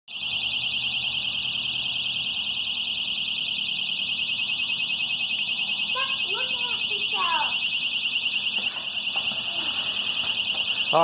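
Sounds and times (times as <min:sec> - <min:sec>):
shrill electronic alarm: 0:00.1 - 0:11.0.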